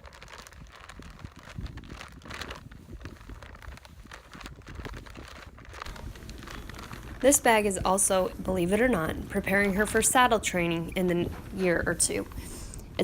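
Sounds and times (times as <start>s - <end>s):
feed sack rustling and crinkling: 0.0s - 13.0s.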